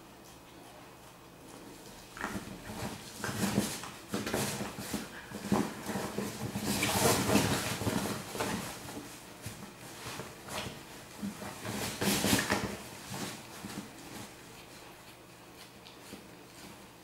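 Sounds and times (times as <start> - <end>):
dog chewing and pawing fabric: 0.2 - 17.0.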